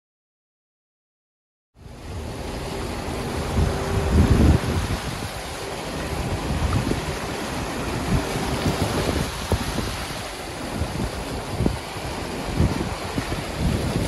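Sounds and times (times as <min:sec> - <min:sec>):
floodwater rushing: 0:01.8 - 0:14.0.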